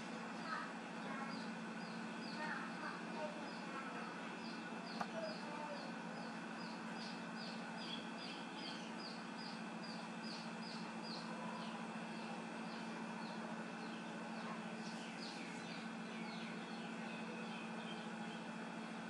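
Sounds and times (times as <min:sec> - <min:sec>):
steady low hum: 0:00.0 - 0:19.0
small bird chirping: 0:00.4 - 0:18.5.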